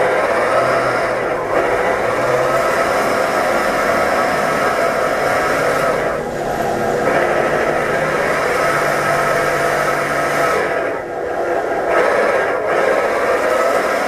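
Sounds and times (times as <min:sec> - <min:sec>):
simulated engine sound from speaker: 0:00.0 - 0:14.0.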